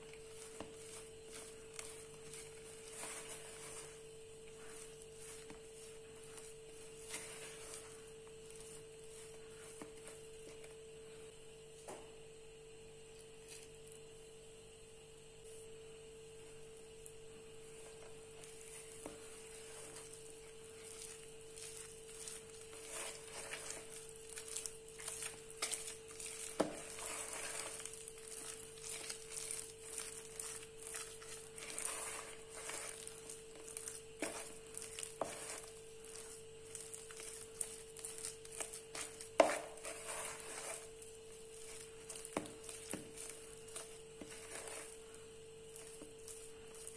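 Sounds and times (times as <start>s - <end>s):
batter squelching and scraping: 0.0s - 11.8s, 12.6s - 46.9s
faint steady hum: 0.0s - 46.9s.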